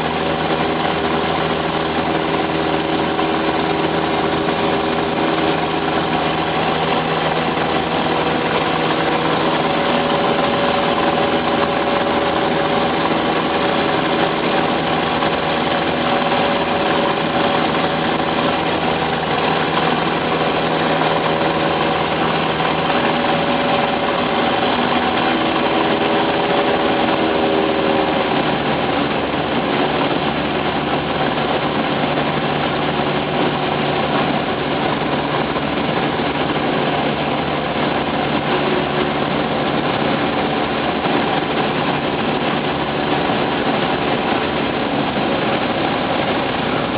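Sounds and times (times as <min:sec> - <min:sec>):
airplane engine and propeller droning: 0:00.0 - 0:46.9.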